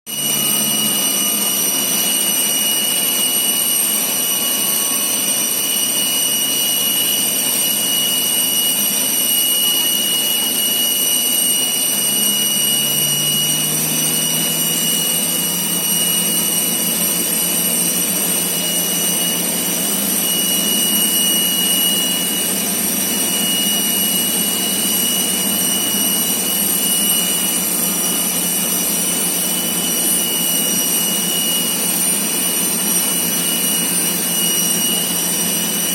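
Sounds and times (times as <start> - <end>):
jet turbine whine: 0.1 - 35.9.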